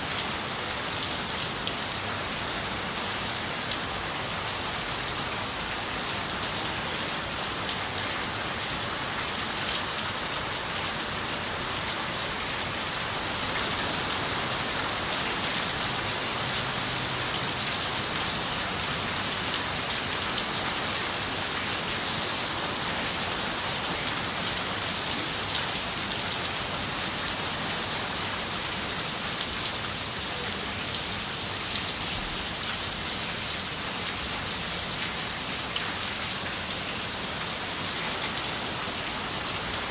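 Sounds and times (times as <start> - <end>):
rain on a window: 0.2 - 39.9.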